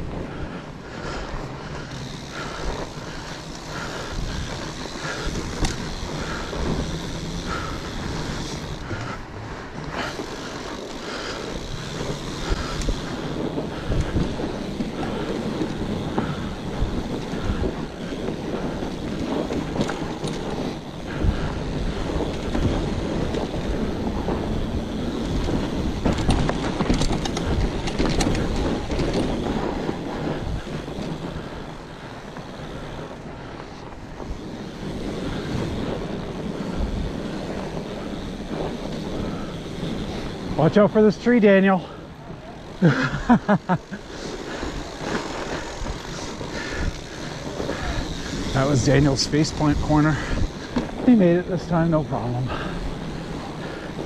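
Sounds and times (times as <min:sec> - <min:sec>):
bike tyres rumbling on trail: 0:00.0 - 0:54.0
wind buffeting microphone: 0:00.0 - 0:54.0
bike knocks and rattles: 0:01.0 - 0:54.0.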